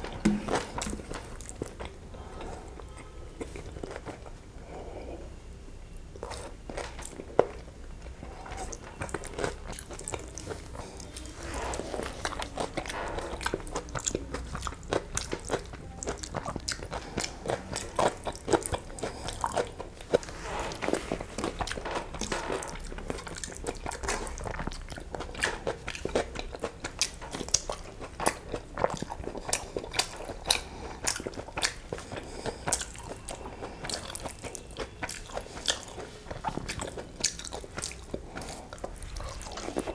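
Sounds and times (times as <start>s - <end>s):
chewing with wet mouth clicks: 0.0s - 4.3s, 6.1s - 20.3s, 20.9s - 39.9s.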